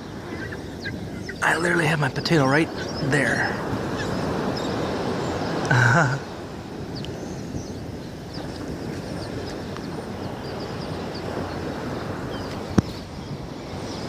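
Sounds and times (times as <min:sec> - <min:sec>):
surf: 0:00.0 - 0:14.0
wind: 0:00.0 - 0:14.0.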